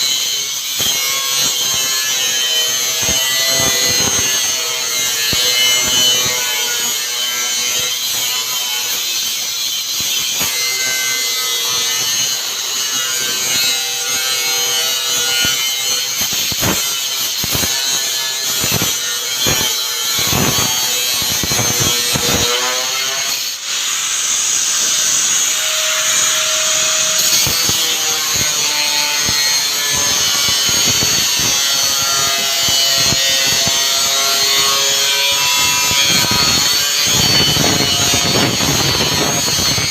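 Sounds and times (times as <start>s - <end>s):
power saw cutting: 0.0s - 39.9s.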